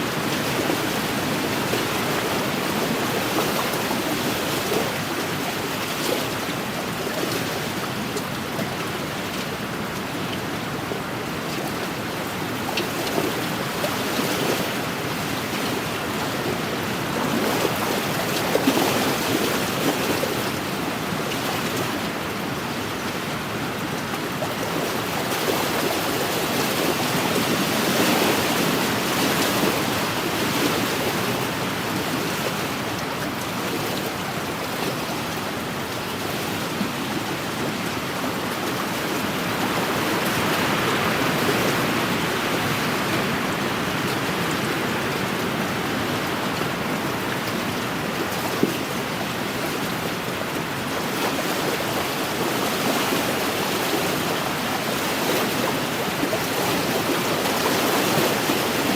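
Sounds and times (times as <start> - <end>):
waves lapping on a shore: 0.0 - 58.9.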